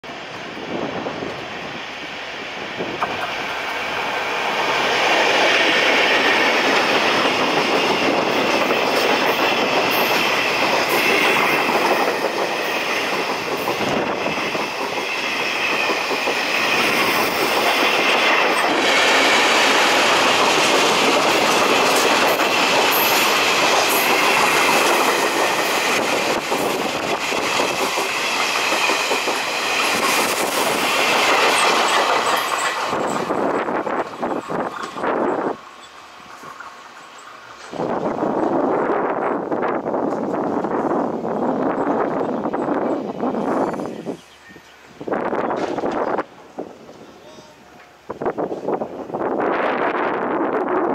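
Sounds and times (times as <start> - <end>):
freight train wheels on rails: 0.0 - 50.9.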